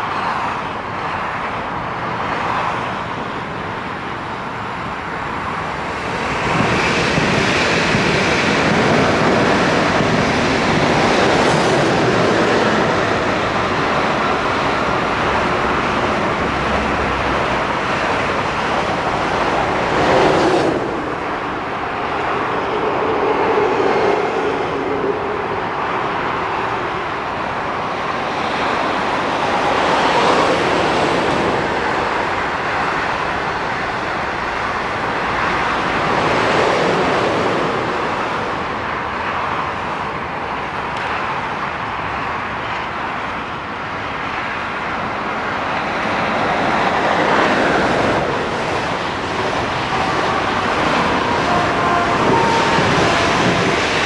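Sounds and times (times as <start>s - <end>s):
trains rushing and rumbling: 0.0s - 54.0s.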